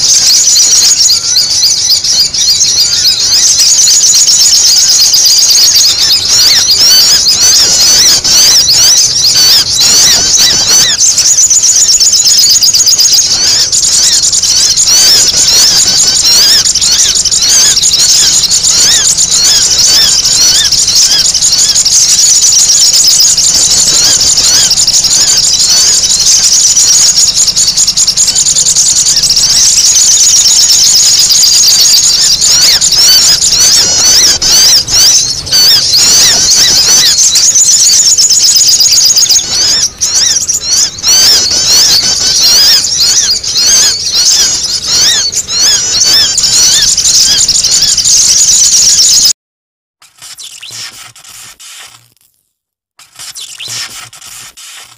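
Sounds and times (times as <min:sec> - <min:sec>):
birds chirping and trilling: 0:00.0 - 0:49.3, 0:50.2 - 0:51.9, 0:53.0 - 0:54.9.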